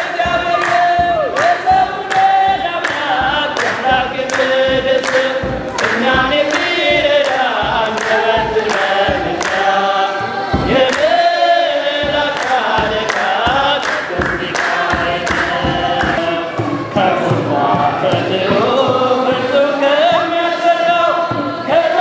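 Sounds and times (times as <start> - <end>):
choir singing a hymn: 0.0 - 22.0
sharp rhythmic strikes: 0.0 - 22.0.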